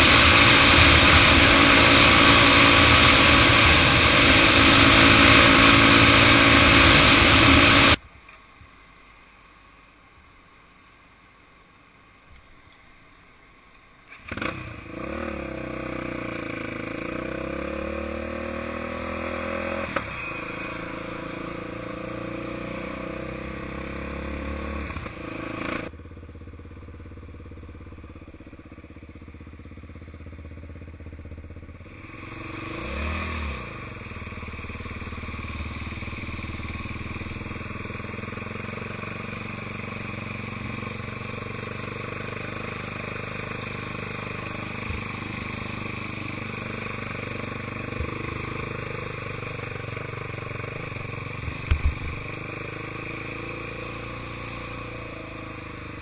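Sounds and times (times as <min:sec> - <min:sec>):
atv engine revving: 0:00.0 - 0:08.0, 0:14.2 - 0:26.0, 0:28.4 - 0:56.0.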